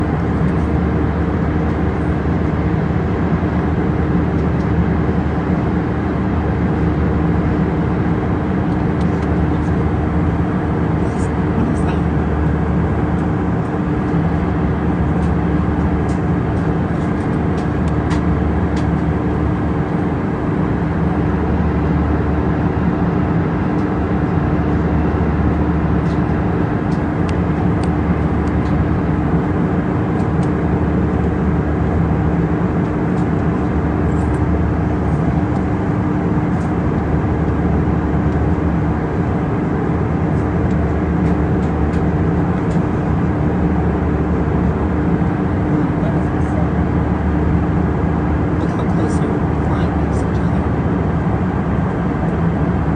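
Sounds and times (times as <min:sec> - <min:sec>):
airliner cabin engine drone: 0:00.0 - 0:52.9.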